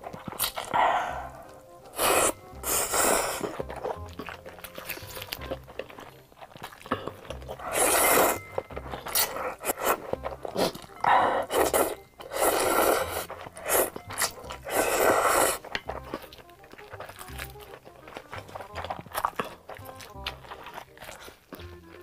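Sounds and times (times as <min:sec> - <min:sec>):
loud noodle slurping: 0:00.0 - 0:22.0
mouth and chewing sounds: 0:00.0 - 0:22.0.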